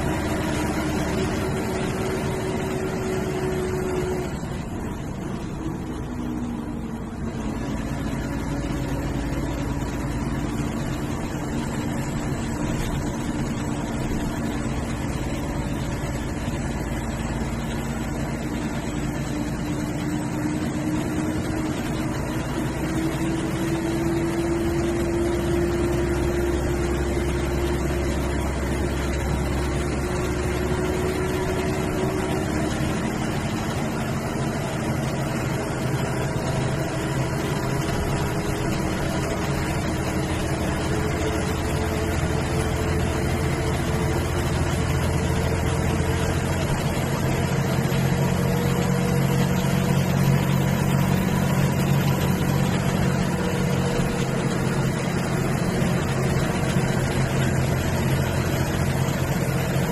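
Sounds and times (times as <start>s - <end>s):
bus diesel engine: 0.0s - 59.9s
road noise: 0.0s - 59.9s.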